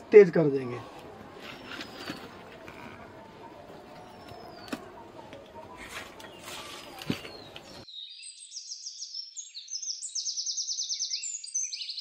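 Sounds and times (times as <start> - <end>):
small birds chirping and trilling: 0.4 - 12.0.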